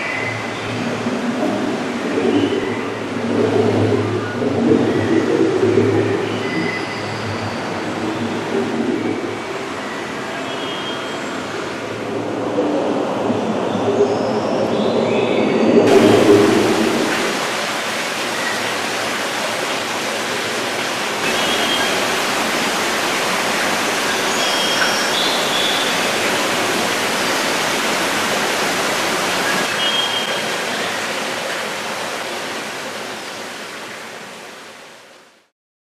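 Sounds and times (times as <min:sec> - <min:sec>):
running water rushing: 0:00.0 - 0:35.5.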